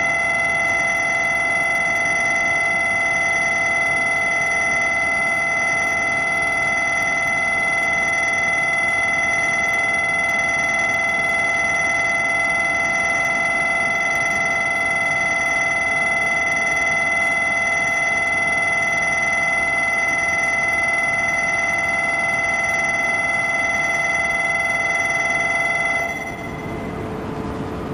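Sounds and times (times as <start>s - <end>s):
platform departure bell ringing: 0.0s - 27.2s.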